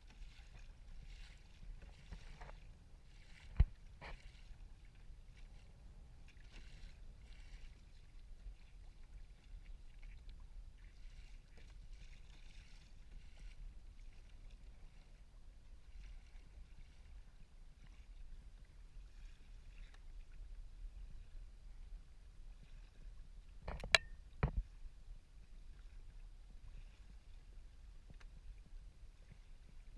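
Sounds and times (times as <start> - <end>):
low steady rumble: 0.0 - 29.9
paddle splashes and drips: 0.0 - 29.9.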